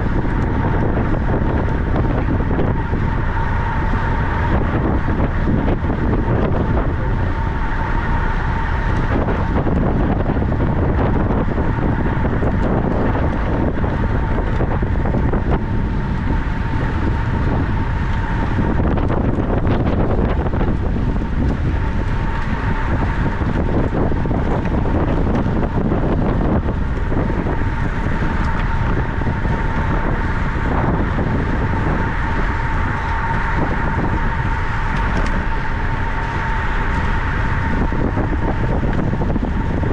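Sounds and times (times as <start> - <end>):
thin steady whine: 0.0 - 39.9
wind buffeting microphone: 0.0 - 39.9.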